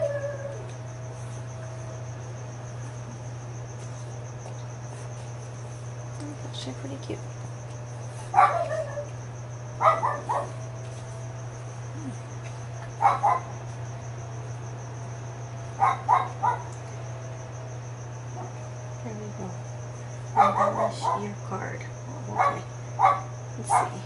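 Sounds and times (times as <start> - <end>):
high-pitched insect trill: 0.0 - 24.0
low steady hum: 0.0 - 24.0.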